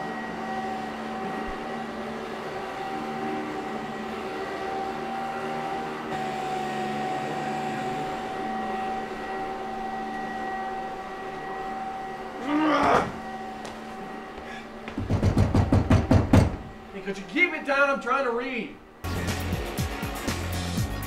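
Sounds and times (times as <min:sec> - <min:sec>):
vacuum cleaner humming and whining: 0:00.0 - 0:18.0, 0:18.8 - 0:21.0.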